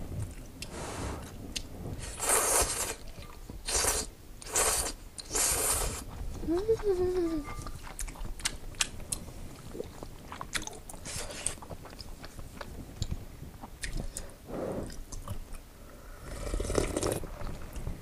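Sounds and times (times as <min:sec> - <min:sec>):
wet chewing of noodles: 0:00.0 - 0:18.0
broth sipped and swallowed: 0:00.2 - 0:06.9, 0:07.5 - 0:18.0.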